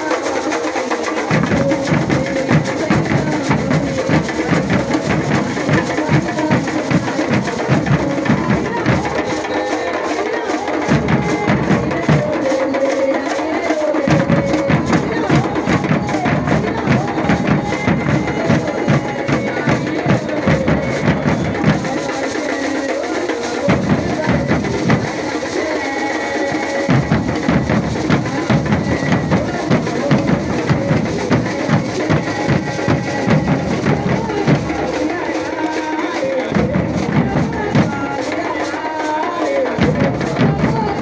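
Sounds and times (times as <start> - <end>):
bass drums beaten in marching rhythm: 0.0 - 41.0.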